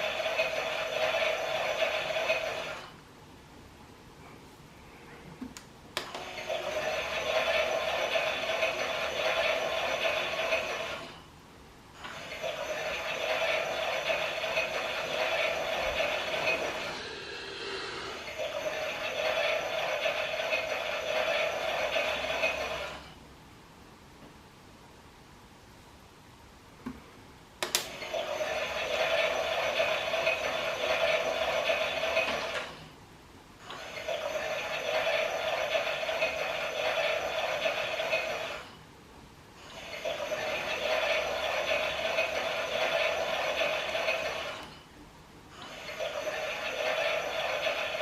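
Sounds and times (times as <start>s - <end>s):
toy washing machine rattling whirr: 0.0s - 3.0s, 6.0s - 11.4s, 12.0s - 23.2s, 27.6s - 33.0s, 33.6s - 38.9s, 39.6s - 48.0s.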